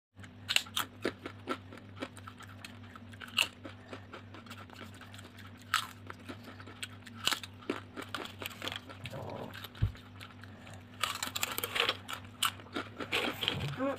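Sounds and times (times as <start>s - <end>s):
faint low hum: 0.2s - 13.9s
chips crunching: 0.4s - 13.9s.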